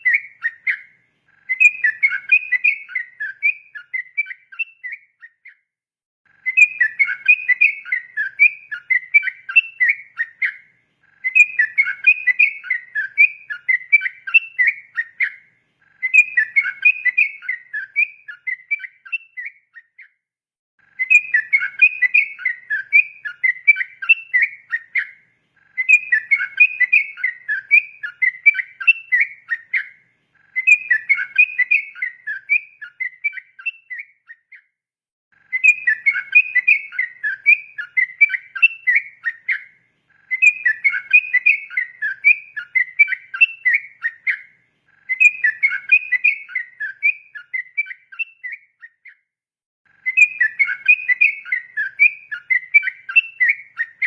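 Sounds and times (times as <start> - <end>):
bulbul singing chirping notes: 0.0 - 5.6, 6.3 - 20.0, 21.0 - 34.6, 35.5 - 49.1, 50.0 - 54.0.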